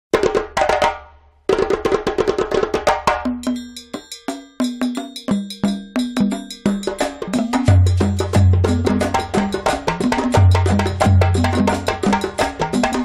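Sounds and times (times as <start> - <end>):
percussive background music: 0.2 - 13.0.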